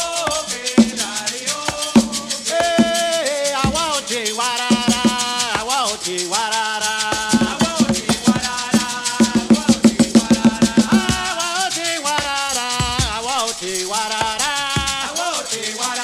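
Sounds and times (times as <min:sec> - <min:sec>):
conga played by hand: 0:00.0 - 0:16.0
shaker rattle: 0:00.0 - 0:16.0
voices singing a chant: 0:00.0 - 0:16.0.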